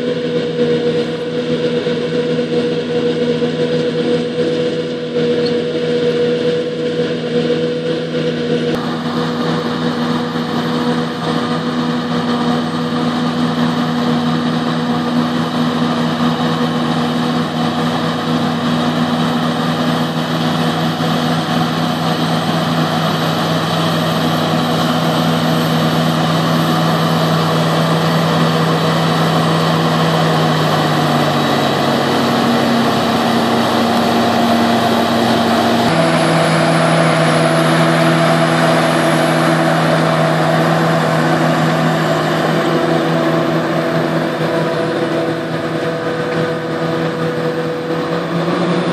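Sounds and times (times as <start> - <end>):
diesel harvester engine drone: 0.0 - 48.9.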